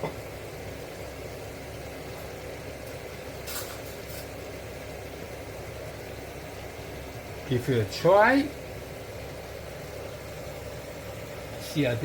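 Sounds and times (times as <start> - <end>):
gas burner rumble: 0.0 - 12.0.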